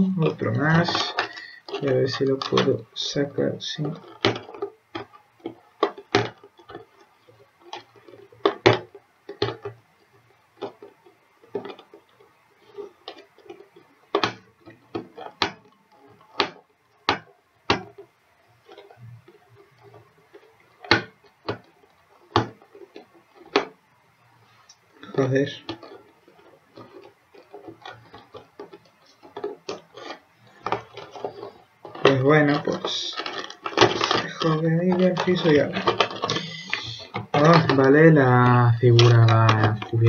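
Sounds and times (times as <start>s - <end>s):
faint rustling: 0.0s - 40.0s.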